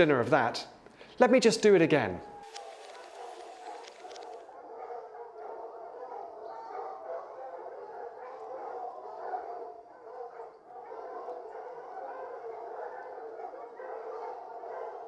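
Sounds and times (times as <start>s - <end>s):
dog barking and howling: 2.2s - 15.0s.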